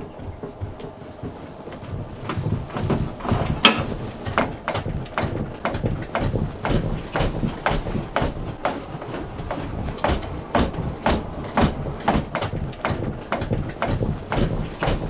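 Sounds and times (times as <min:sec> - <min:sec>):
footsteps walking: 0:00.0 - 0:15.0.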